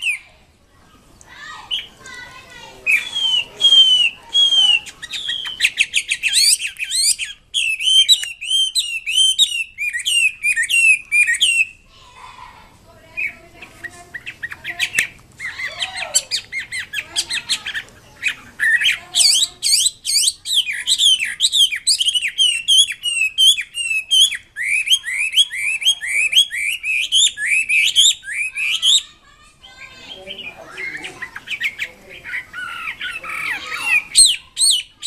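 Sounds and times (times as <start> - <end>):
bird singing whistled notes: 2.8 - 11.8, 13.2 - 29.1, 29.7 - 35.0.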